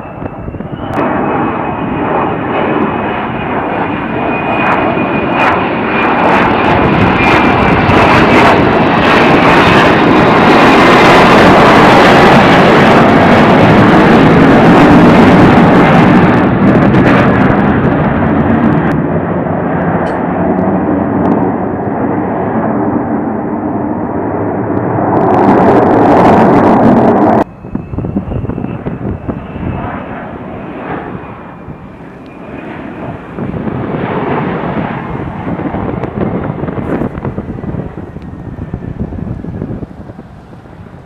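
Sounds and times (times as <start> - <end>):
distant jet with high whine: 0.0 - 41.0
jet engine and lift fan roaring: 0.0 - 41.0.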